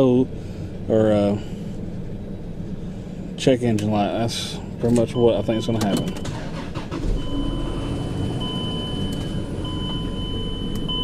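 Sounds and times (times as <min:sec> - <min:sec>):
engine misfiring with low rumble: 0:00.0 - 0:11.0.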